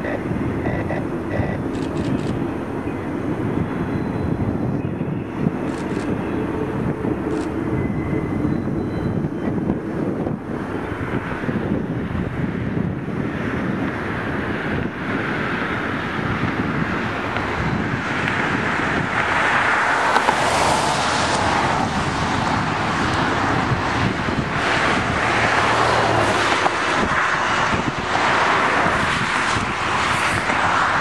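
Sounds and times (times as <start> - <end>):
distant freight train rumbling: 0.0 - 31.0
wind buffeting microphone: 0.0 - 31.0.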